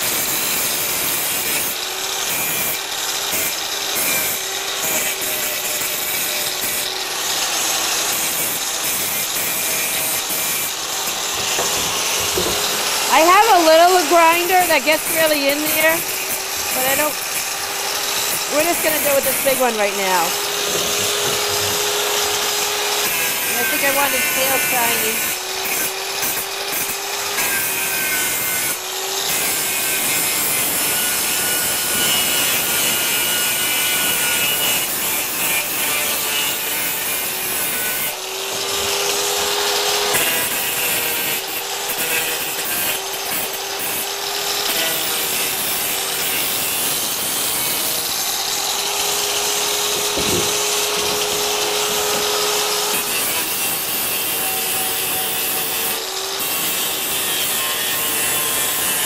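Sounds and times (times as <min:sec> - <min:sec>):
angle grinder grinding steel: 0:00.0 - 0:59.0.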